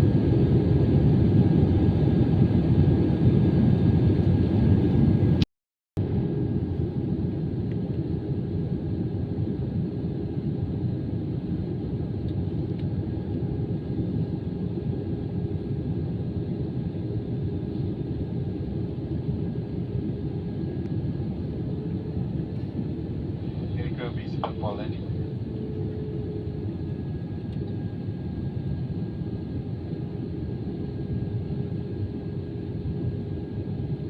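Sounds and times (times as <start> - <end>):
airplane cabin rumble: 6.0 - 34.0.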